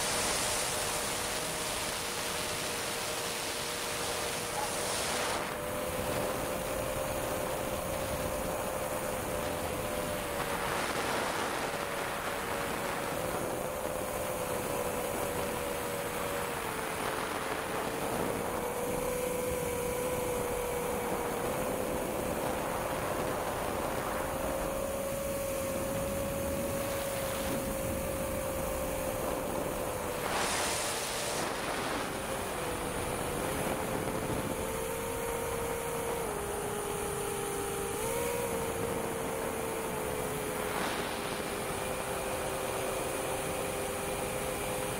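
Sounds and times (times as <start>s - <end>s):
drone motors running: 0.0s - 44.9s
wind rush on microphone: 0.0s - 44.9s.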